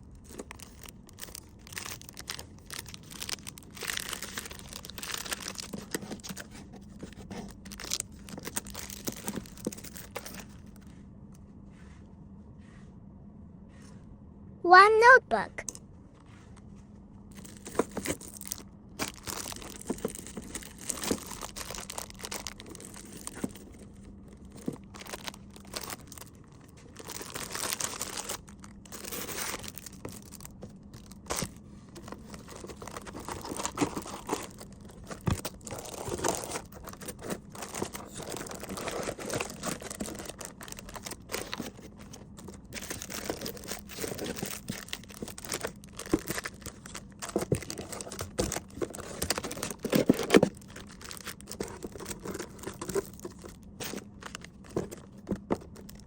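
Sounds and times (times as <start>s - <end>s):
packaging crinkling and rustling: 0.0s - 10.9s, 17.3s - 56.0s.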